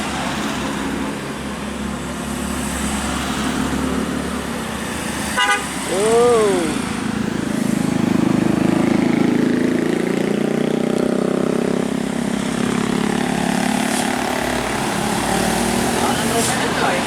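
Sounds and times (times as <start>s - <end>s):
large vehicle engine passing: 0.1s - 17.0s.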